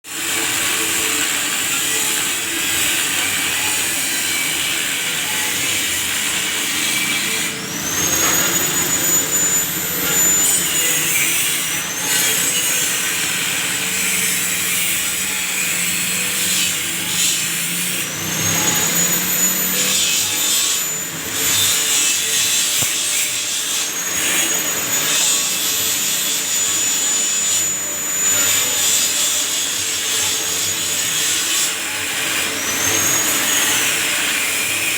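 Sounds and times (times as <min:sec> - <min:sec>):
band saw cutting: 0:00.0 - 0:34.9.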